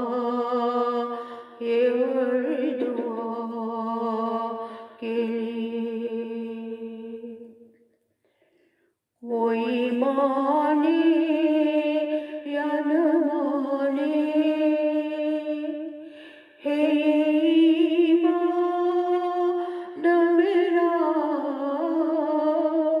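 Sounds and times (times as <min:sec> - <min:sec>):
woman chanting: 0:00.0 - 0:07.7, 0:09.2 - 0:23.0.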